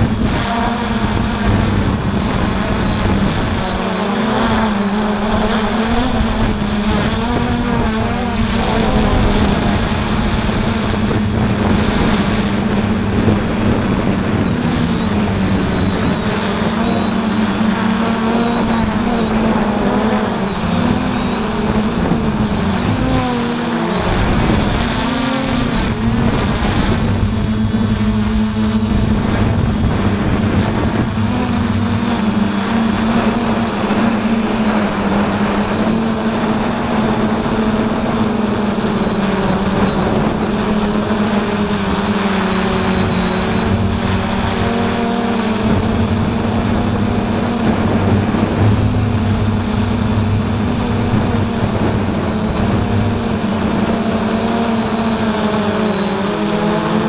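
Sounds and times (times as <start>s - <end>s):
quadcopter motors humming: 0.0s - 57.0s.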